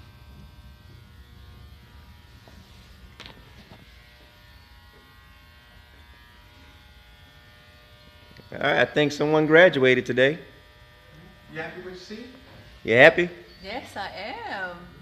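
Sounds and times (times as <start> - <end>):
electrical buzz: 0.0 - 15.0.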